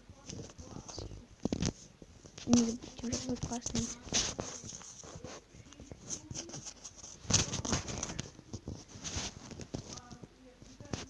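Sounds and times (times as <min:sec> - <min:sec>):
rustling of handled object: 0:00.0 - 0:11.0.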